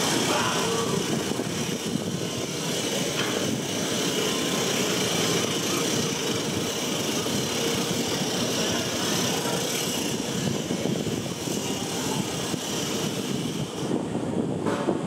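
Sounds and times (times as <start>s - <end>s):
traffic hum: 0.0s - 14.7s.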